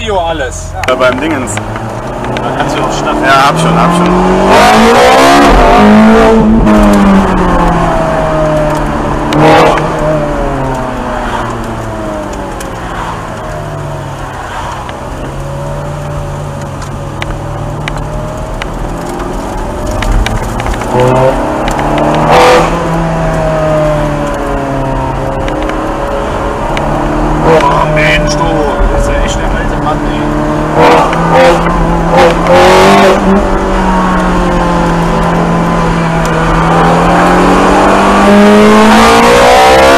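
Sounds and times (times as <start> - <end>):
car engine revving in cabin: 0.0 - 39.9.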